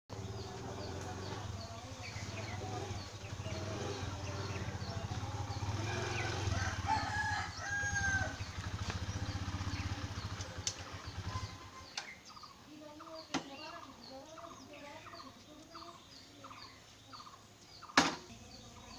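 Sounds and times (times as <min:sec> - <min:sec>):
birds chirping: 0:00.1 - 0:18.9.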